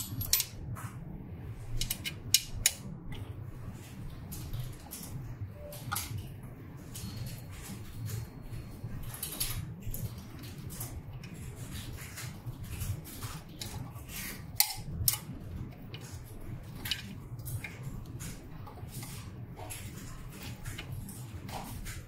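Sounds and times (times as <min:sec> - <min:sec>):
plastic cables rustling and clicking: 0:00.0 - 0:22.0
steady low hum: 0:00.0 - 0:22.0.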